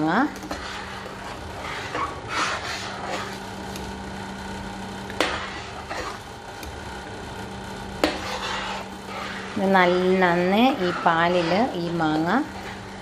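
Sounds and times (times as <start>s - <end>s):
metal spoon stirring in pan: 0.0s - 4.0s, 5.1s - 6.9s, 7.9s - 13.0s
steady low hum: 0.0s - 13.0s.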